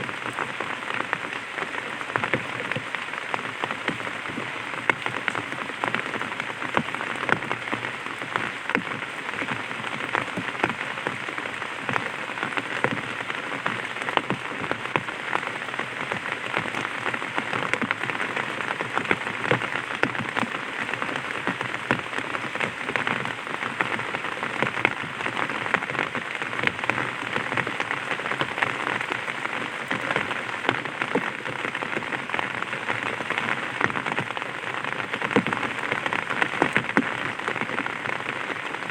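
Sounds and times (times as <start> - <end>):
rain on an umbrella: 0.0 - 38.9.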